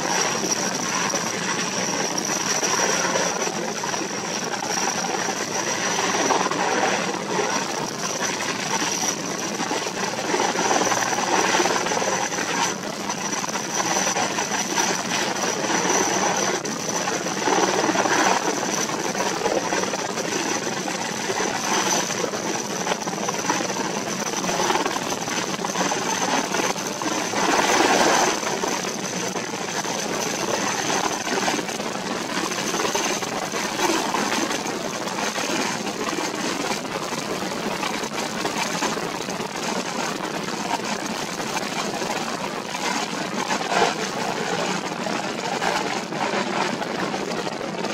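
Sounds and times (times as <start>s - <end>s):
helicopter turbine whine and roar: 0.0s - 47.9s.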